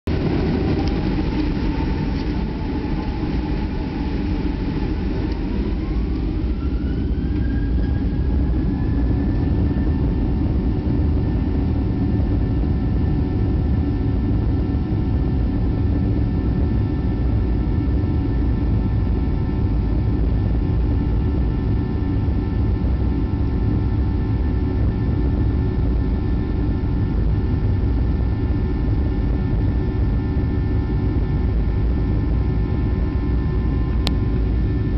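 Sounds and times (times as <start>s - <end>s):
low engine rumble: 0.0s - 34.9s
jet engine whine: 0.1s - 34.9s.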